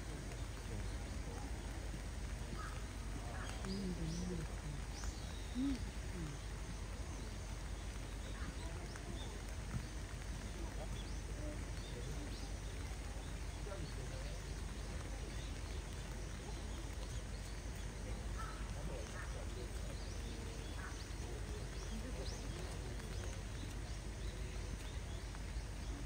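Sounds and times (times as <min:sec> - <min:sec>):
faint distant voices: 0:00.0 - 0:26.0
rain falling: 0:00.0 - 0:26.0.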